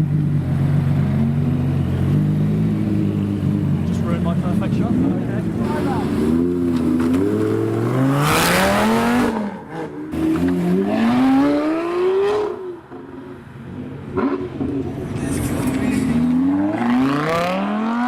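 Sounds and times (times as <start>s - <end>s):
sports car engine accelerating: 0.0s - 13.0s, 14.0s - 18.0s.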